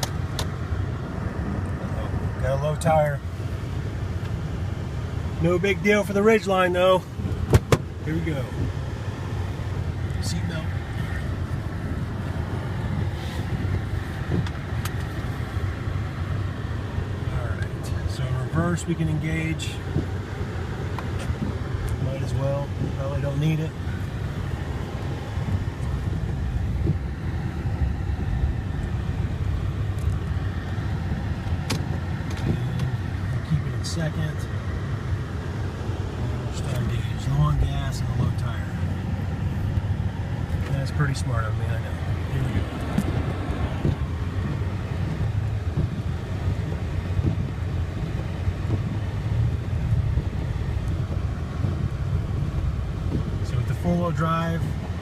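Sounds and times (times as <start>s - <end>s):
truck engine low rumble: 0.0s - 55.0s.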